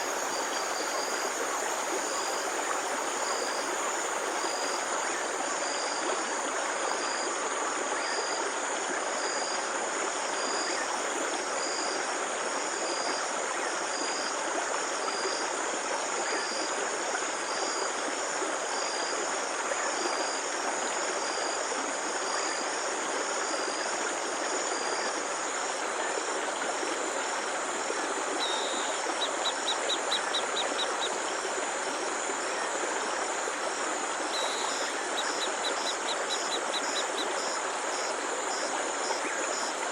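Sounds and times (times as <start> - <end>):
crickets chirping: 0.0 - 39.9
flowing water: 0.0 - 39.9.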